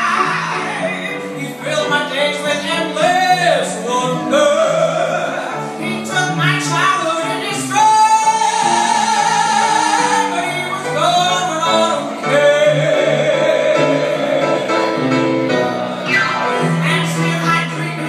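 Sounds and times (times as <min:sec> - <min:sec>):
live band accompaniment: 0:00.0 - 0:18.0.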